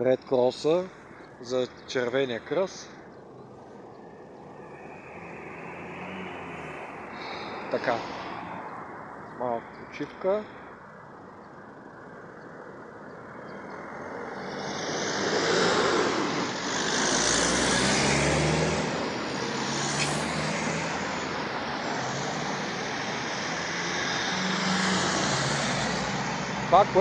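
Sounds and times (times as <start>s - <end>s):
road traffic driving past: 0.0s - 27.0s.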